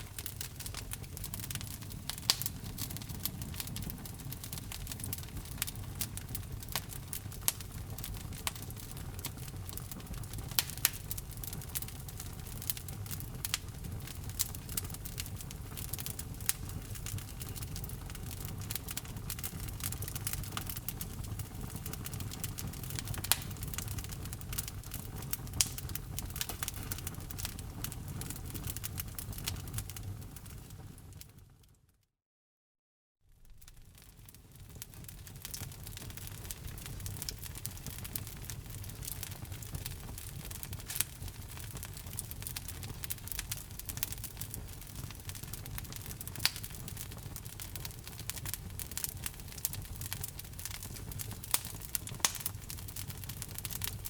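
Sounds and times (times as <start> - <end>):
fireplace wood crackling: 0.0 - 30.8, 33.4 - 54.0
flames rumbling: 0.0 - 31.5, 33.4 - 54.0.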